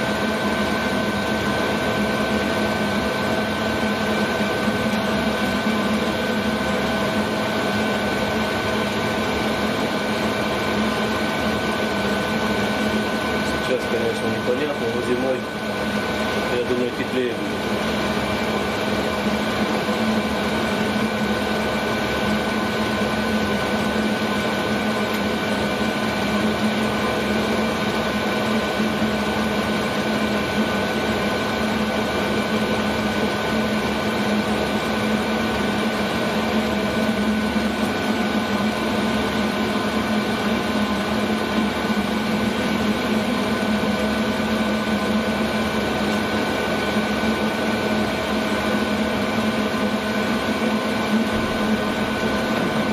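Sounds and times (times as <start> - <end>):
air heater running: 0.0 - 52.9
fan motor whines: 0.0 - 52.9.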